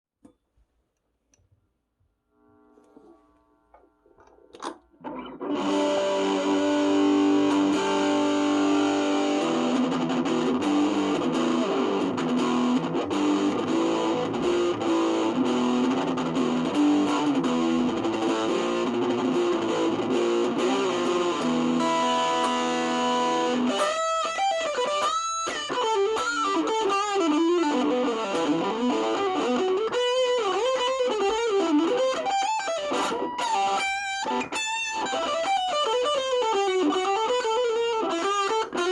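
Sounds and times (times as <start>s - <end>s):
distorted electric guitar: 2.4s - 38.9s.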